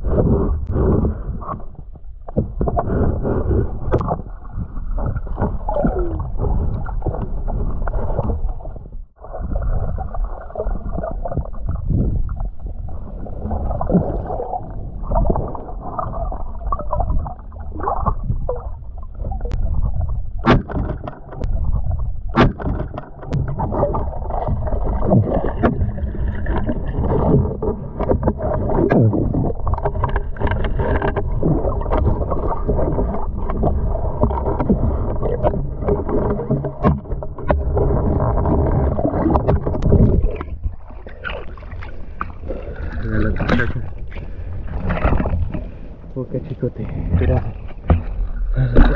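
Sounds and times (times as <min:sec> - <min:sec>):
muffled underwater rumbling: 0:00.0 - 0:48.9.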